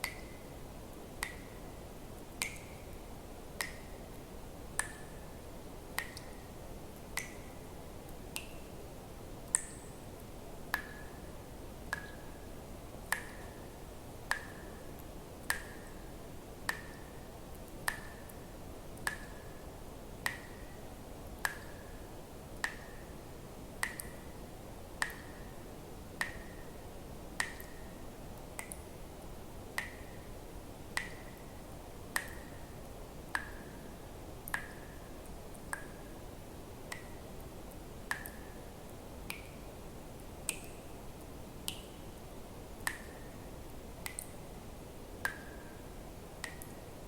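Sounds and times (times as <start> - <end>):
water dripping: 0.0 - 8.8, 9.4 - 19.6, 20.2 - 20.8, 21.4 - 23.2, 23.8 - 26.8, 27.4 - 29.0, 29.7 - 46.9
faint steady hiss: 0.0 - 47.0.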